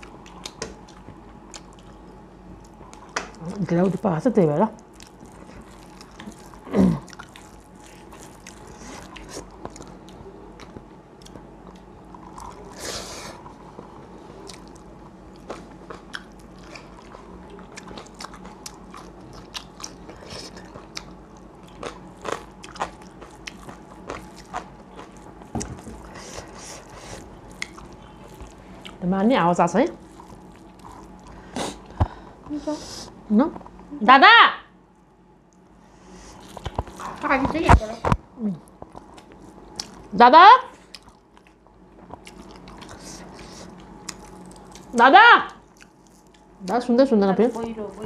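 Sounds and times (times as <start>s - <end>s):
chewing and crunching: 0.0s - 29.1s, 29.7s - 32.0s, 35.5s - 40.1s, 40.7s - 48.0s.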